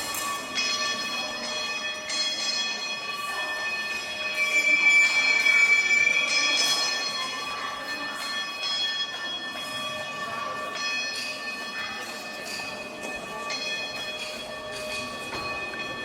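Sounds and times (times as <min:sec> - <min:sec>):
metal cowbells ringing: 0:00.0 - 0:16.0.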